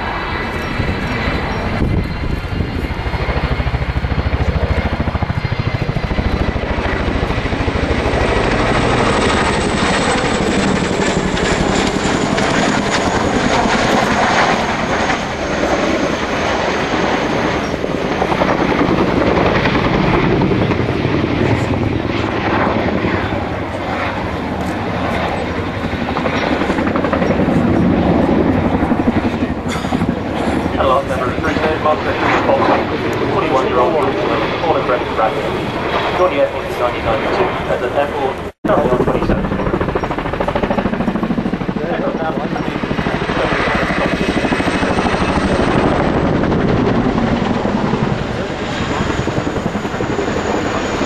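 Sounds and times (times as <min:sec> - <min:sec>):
helicopter rotor beat: 0:00.0 - 0:51.0
helicopter turbines: 0:00.0 - 0:51.0.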